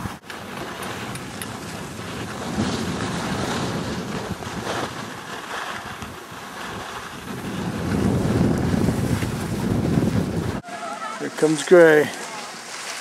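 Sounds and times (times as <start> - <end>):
wind rushing over microphone: 0.0 - 10.6
skis sliding on snow: 0.0 - 13.0.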